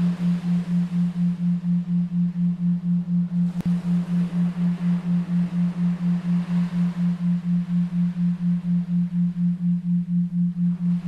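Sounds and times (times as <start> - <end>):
pulsing low electronic tone: 0.0 - 11.0.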